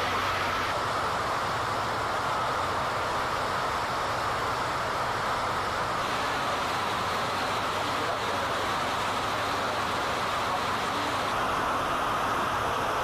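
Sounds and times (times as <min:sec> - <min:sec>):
rush of wind and water: 0:00.0 - 0:13.0
tugboat engine hum: 0:00.0 - 0:13.0.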